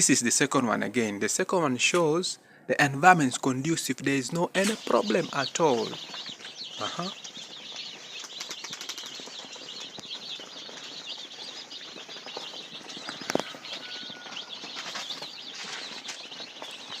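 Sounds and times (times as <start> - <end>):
chicks peeping: 2.8 - 17.0.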